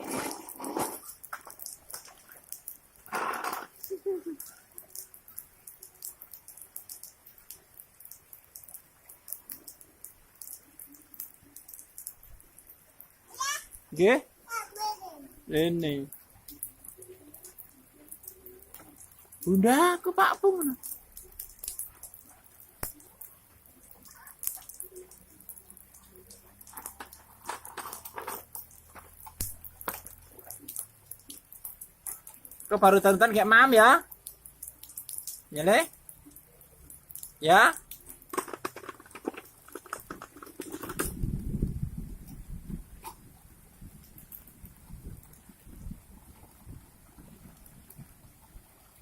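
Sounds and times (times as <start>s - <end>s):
faint rain hiss: 0.0s - 49.0s
raindrops ticking: 0.0s - 49.0s.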